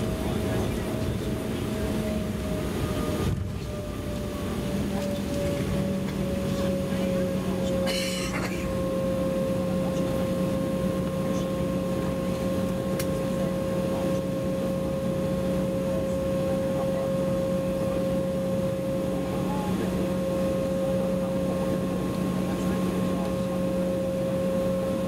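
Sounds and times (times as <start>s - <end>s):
airliner cabin hum: 0.0s - 25.0s.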